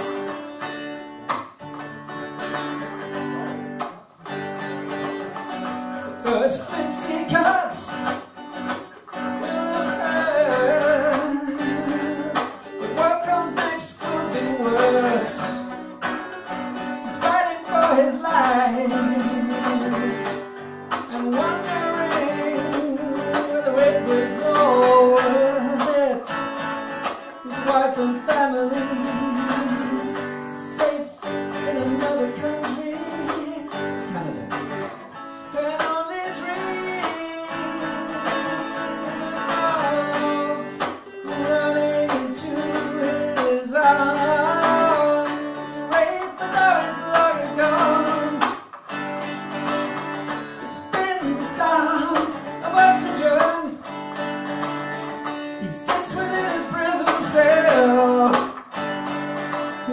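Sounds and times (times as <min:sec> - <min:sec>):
acoustic guitar strumming: 0:00.0 - 0:59.9
person singing: 0:04.8 - 0:16.1, 0:16.9 - 0:26.3, 0:27.3 - 0:48.6, 0:50.6 - 0:53.9, 0:55.5 - 0:58.6.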